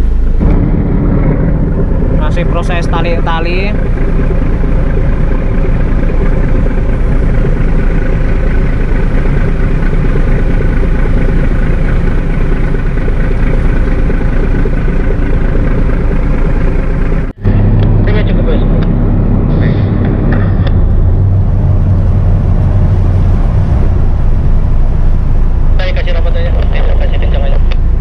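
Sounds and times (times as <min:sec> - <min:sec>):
boat diesel engine running: 0:00.0 - 0:28.0.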